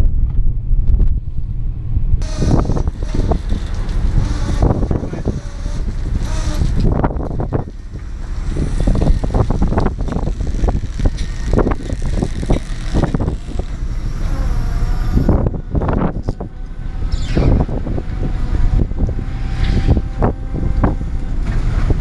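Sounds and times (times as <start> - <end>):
wind buffeting microphone: 0.0 - 22.0
boat engine running: 2.2 - 22.0.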